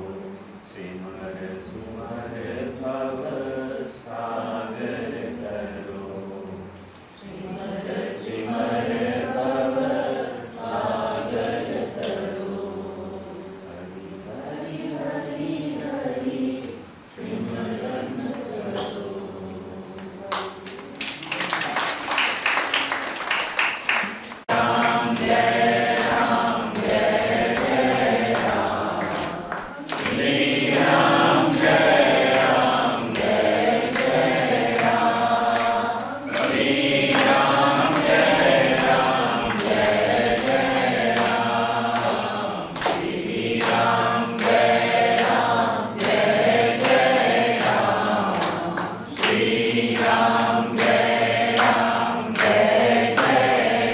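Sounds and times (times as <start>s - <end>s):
group singing devotional song: 0.0s - 21.2s, 24.4s - 53.9s.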